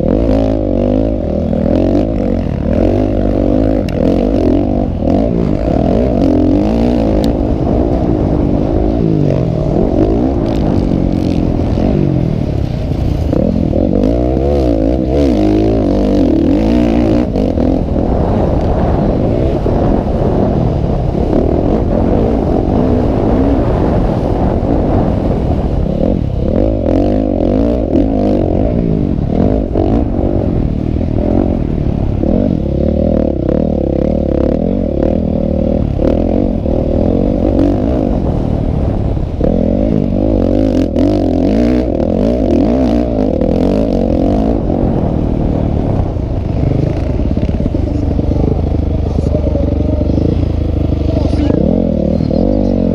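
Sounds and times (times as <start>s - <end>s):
motocross bikes revving: 0.0s - 52.9s.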